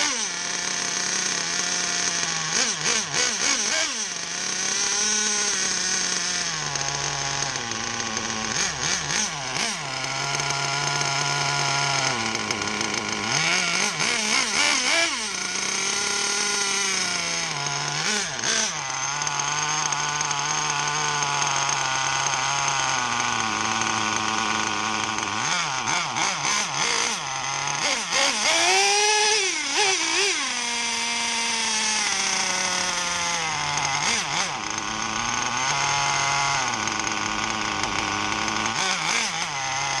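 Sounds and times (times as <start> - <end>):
nitro model engine idling and revving: 0.0 - 40.0.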